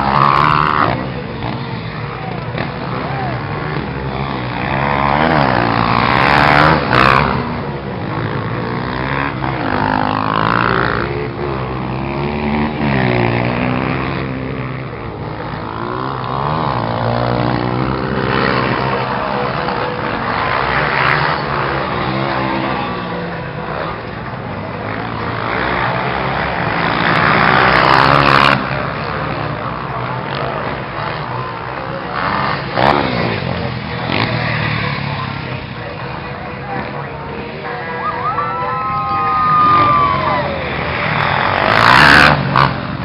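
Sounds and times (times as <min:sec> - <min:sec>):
motorcycle engines revving: 0:00.0 - 0:43.0.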